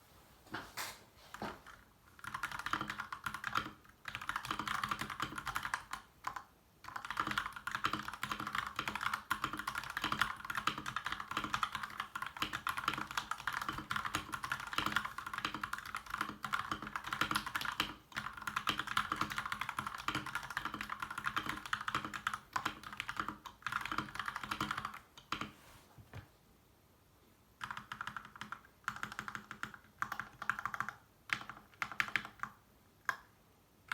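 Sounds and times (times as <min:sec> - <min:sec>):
mechanical keyboard typing: 0:01.4 - 0:25.5, 0:27.6 - 0:33.3.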